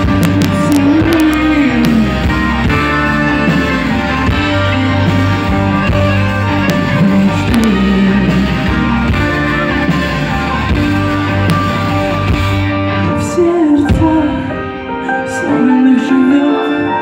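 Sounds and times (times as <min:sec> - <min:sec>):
live band playing instrumental: 0:00.0 - 0:17.0.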